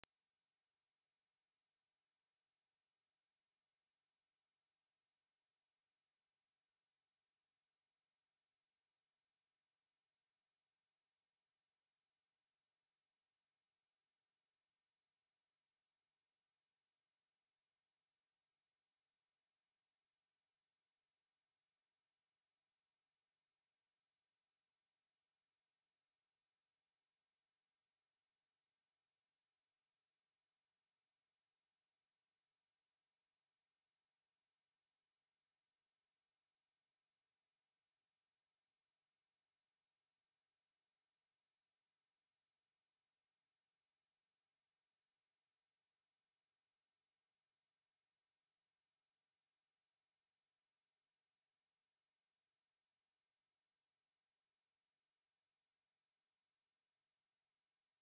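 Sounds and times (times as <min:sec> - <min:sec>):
high-pitched sine-wave test tone: 0:00.0 - 0:58.0.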